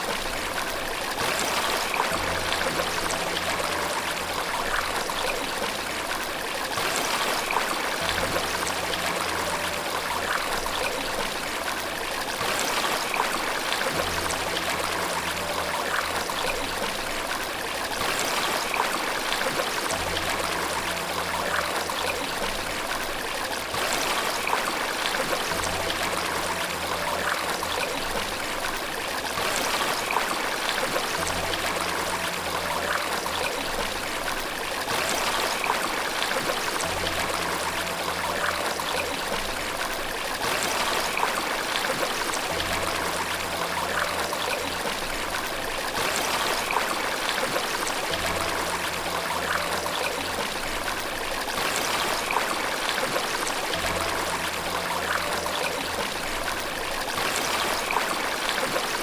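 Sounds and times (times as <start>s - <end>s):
running water rushing and splashing: 0.0s - 59.0s.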